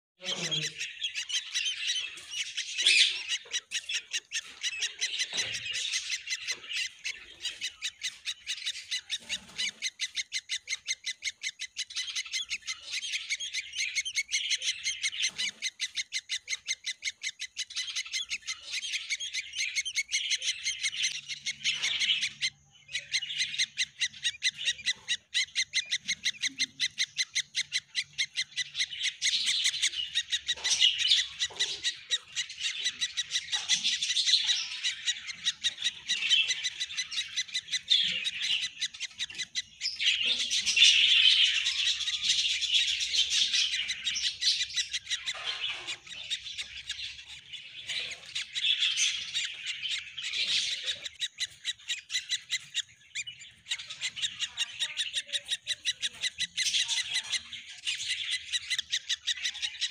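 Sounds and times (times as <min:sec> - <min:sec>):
nestling birds chirping: 0:00.0 - 0:59.9.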